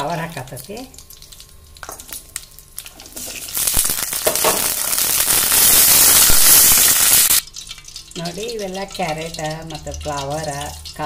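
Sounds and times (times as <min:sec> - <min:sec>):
loud sizzle of frying: 0:00.0 - 0:11.0.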